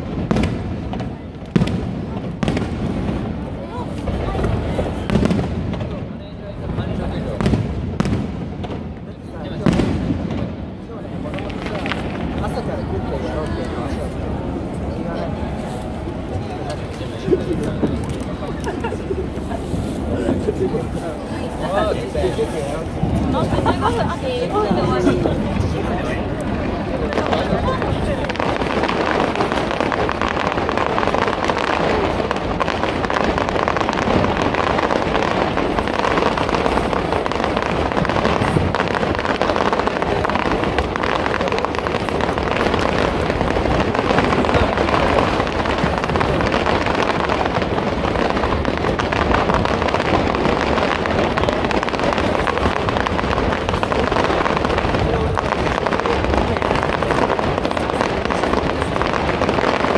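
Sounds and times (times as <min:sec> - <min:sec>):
crowd voices: 0:00.0 - 0:59.9
fireworks bursting and crackling: 0:00.0 - 0:59.9.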